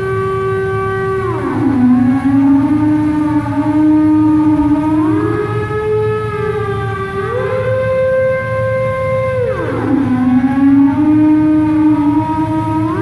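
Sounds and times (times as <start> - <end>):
steam whistle sliding notes: 0.0 - 13.0.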